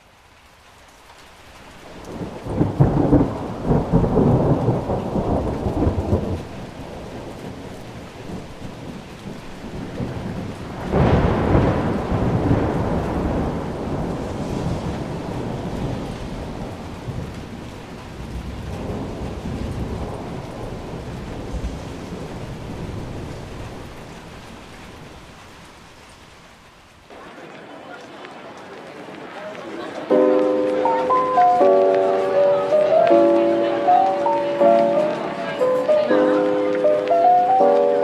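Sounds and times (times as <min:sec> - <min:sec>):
steady rain: 0:00.0 - 0:38.0
thunder rolling: 0:01.8 - 0:26.0, 0:27.1 - 0:38.0.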